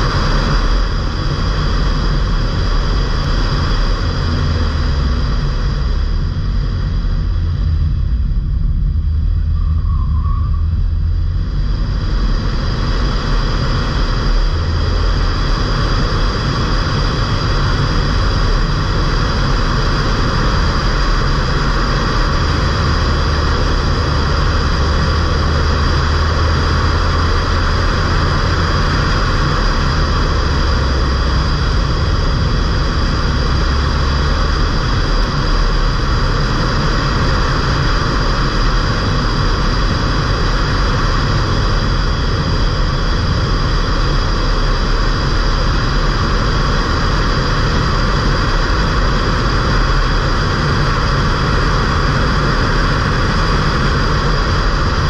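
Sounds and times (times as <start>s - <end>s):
car engine and tyres rumbling: 0.0s - 55.0s
road and wind noise hiss: 0.0s - 55.0s.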